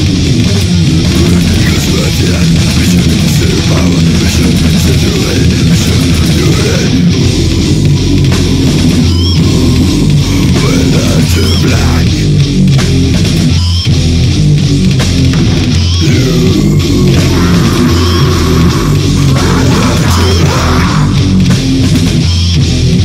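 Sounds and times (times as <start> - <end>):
high squealing guitar notes: 0.0 - 14.4, 15.4 - 22.7
bass guitar: 0.0 - 23.0
distorted electric guitar riffing: 0.0 - 23.0.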